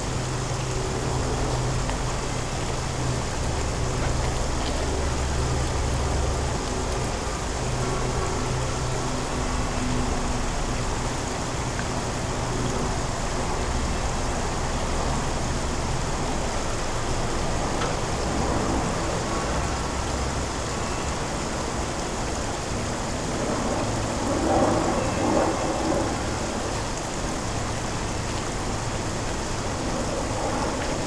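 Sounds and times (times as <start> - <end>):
low city rumble: 0.0 - 31.0.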